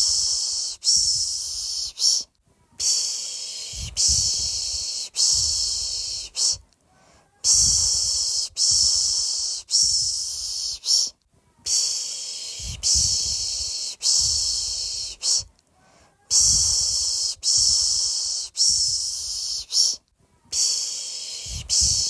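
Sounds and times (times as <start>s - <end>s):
person shushing: 0.0s - 6.6s, 7.3s - 15.5s, 16.2s - 22.0s.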